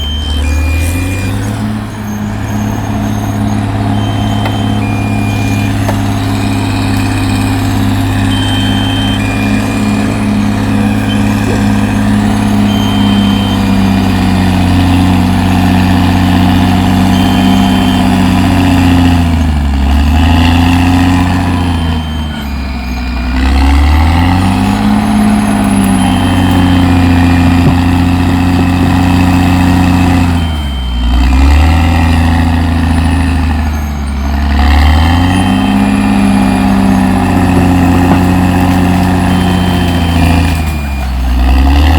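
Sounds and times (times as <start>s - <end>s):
short high beeps: 0.0s - 19.4s, 24.0s - 41.9s
bulldozer diesel engine running hard: 0.0s - 41.9s.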